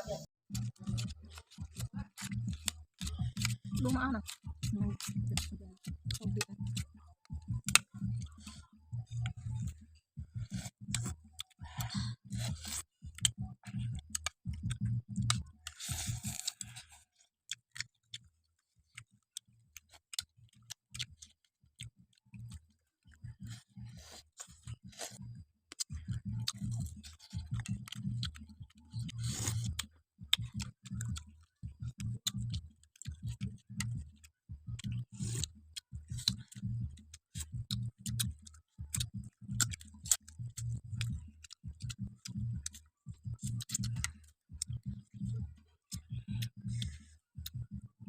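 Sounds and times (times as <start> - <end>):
person chewing a snack: 0.5 - 48.0.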